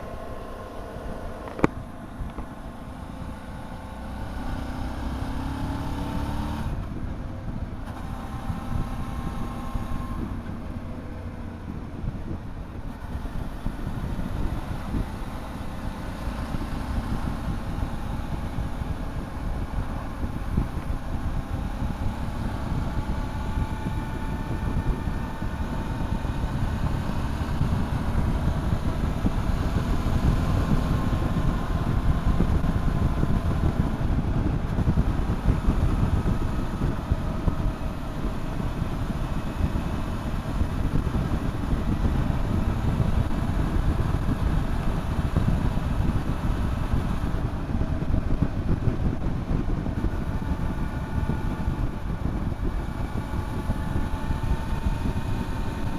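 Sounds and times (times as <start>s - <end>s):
motorcycle engine running: 0.0s - 55.9s
wind rumble on microphone: 0.0s - 55.9s.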